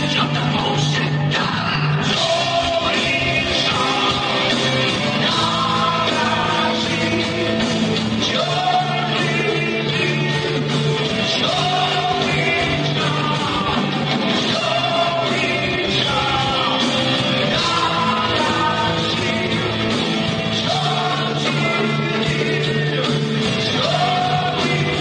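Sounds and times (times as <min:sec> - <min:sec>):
heavy metal band playing: 0:00.0 - 0:25.0.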